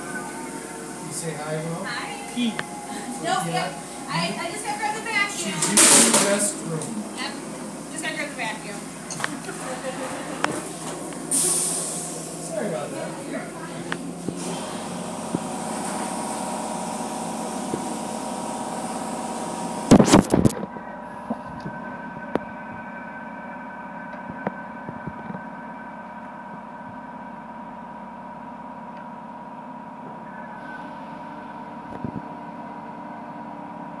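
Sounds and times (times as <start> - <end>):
machinery hum: 0.0 - 34.0.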